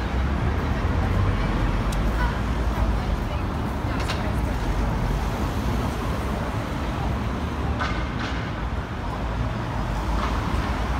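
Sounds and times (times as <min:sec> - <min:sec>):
city street traffic rumble: 0:00.0 - 0:10.9.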